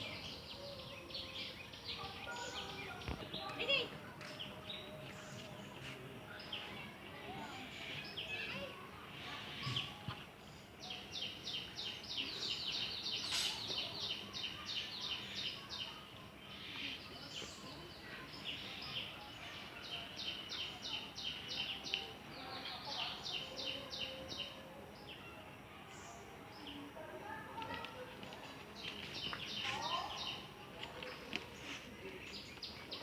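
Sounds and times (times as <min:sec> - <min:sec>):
faint outdoor background noise: 0:00.0 - 0:33.0.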